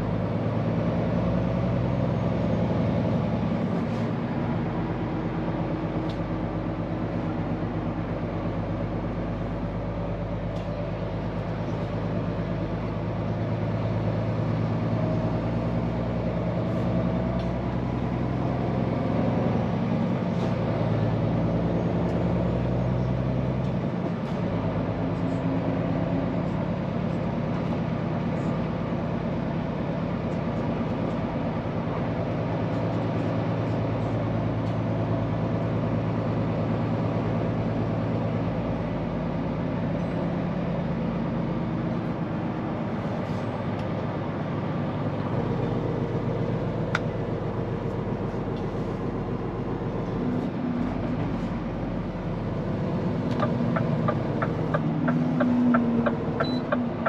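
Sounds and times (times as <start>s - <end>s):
road and cab noise: 0.0s - 57.0s
truck diesel engine driving: 0.0s - 57.0s.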